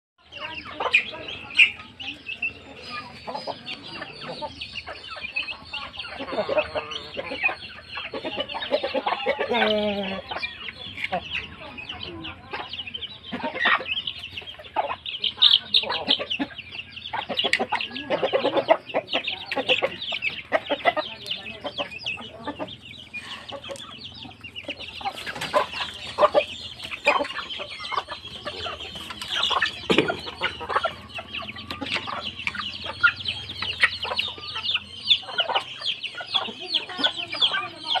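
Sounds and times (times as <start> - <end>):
chickens clucking: 0.2 - 38.0
chicks cheeping: 0.2 - 38.0.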